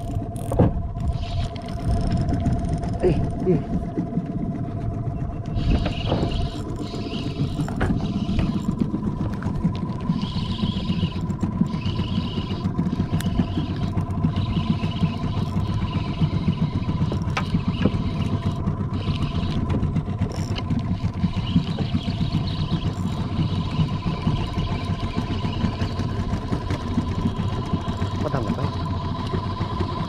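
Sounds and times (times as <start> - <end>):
boat motor rumbling: 0.0 - 30.0
thin steady whine: 0.0 - 30.0.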